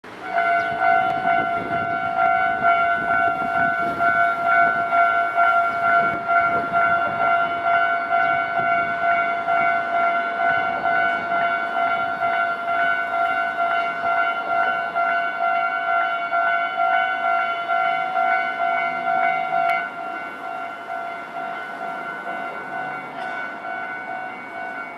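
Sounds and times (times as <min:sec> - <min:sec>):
level-crossing warning bell: 0:00.0 - 0:24.9
train rumble: 0:00.0 - 0:24.9.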